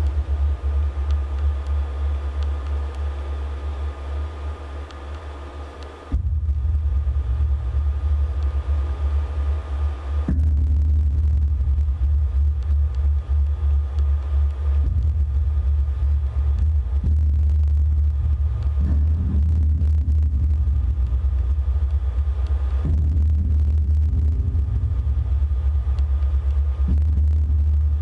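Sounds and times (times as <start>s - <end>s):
loud steady low drone: 0.0s - 28.0s.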